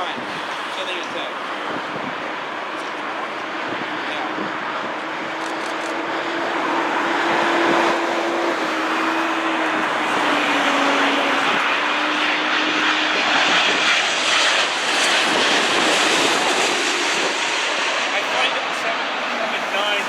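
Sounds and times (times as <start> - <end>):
jet airliner passing: 0.0 - 20.0.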